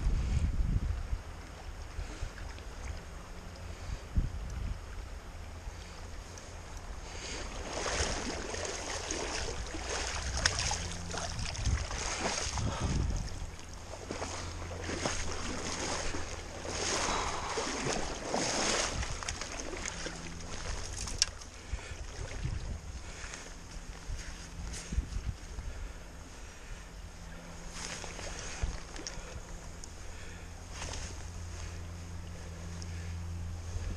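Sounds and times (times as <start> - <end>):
wind rumble on microphone: 0.0 - 33.9
water splashing and sloshing: 1.0 - 33.9.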